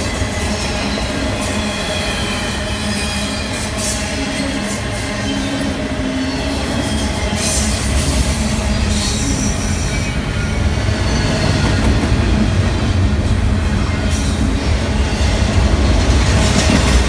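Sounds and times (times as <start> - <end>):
train wheel squeal: 0.0 - 12.5, 13.3 - 17.0
freight train rumbling past: 0.0 - 17.0.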